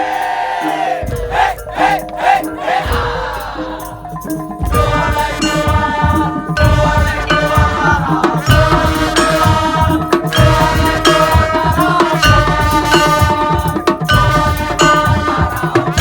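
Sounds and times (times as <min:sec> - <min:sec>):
drums beating driving rhythm: 0:00.0 - 0:16.0
sustained bending melodic line: 0:00.9 - 0:16.0.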